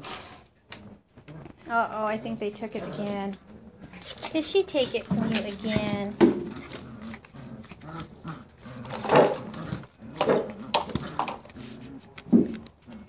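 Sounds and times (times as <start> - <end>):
dogs tugging toy: 0.0 - 13.0.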